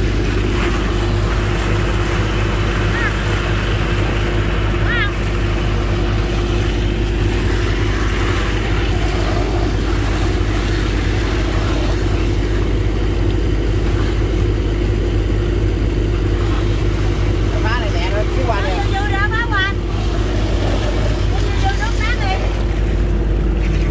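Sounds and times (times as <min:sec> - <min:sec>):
boat engine running under load: 0:00.0 - 0:23.9.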